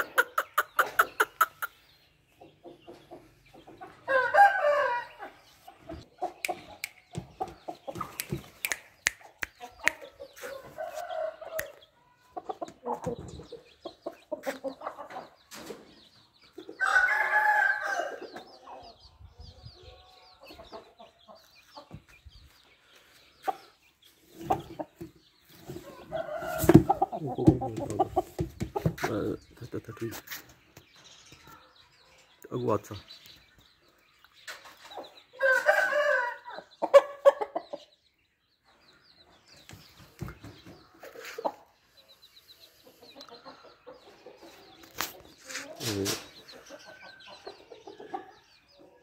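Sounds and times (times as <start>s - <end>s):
chickens clucking: 0.0s - 17.6s, 18.2s - 49.0s.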